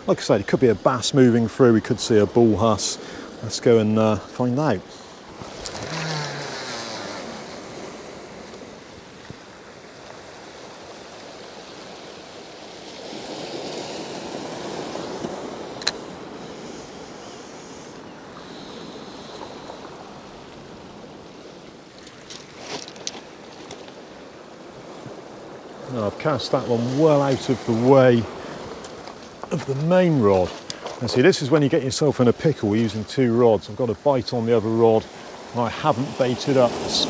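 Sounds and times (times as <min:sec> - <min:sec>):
waves on shingle beach: 0:00.0 - 0:37.0.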